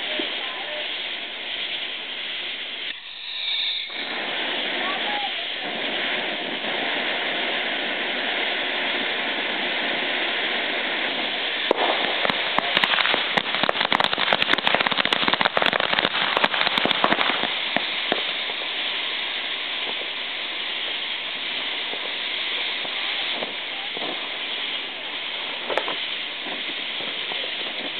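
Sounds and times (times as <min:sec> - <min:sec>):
firework hissing and crackling: 0:00.0 - 0:27.9.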